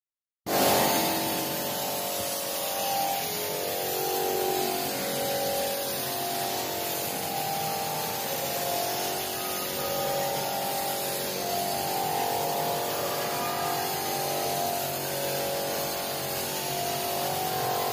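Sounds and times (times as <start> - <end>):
paint spray gun hissing: 0.5 - 17.9.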